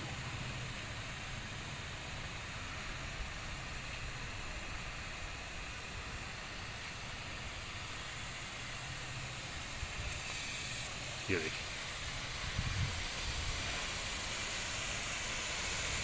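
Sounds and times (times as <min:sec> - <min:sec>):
water spray hissing on wall: 0:00.0 - 0:16.0.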